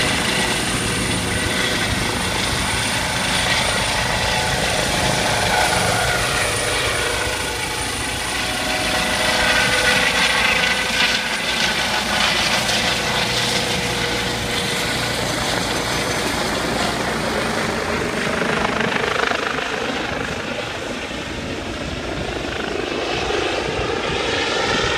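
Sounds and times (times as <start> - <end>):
helicopter flying overhead: 0.0 - 24.9.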